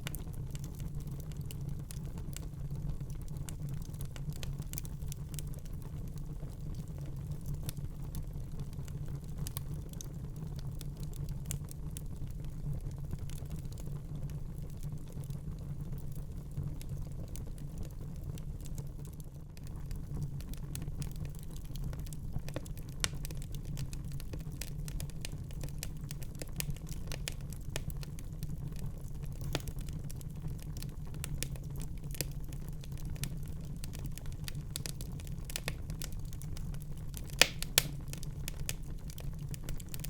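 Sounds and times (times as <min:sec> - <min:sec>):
fire crackles and pops: 0:00.0 - 0:40.0
low rumble of flames: 0:00.0 - 0:40.0.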